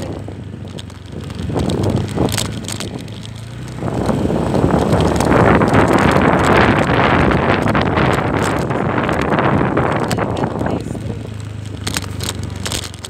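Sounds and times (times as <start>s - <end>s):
motorcycle engine humming: 0.0s - 13.0s
wind rushing over microphone: 0.0s - 13.0s.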